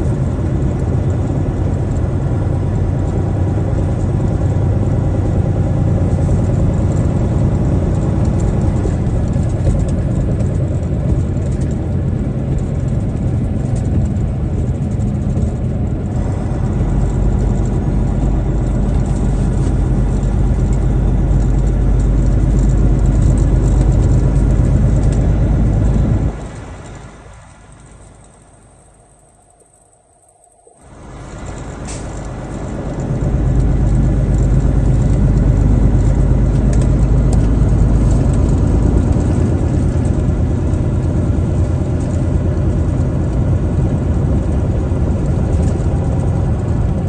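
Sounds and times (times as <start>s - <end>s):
truck engine drone: 0.0s - 47.0s
tyre and road noise: 0.0s - 47.0s.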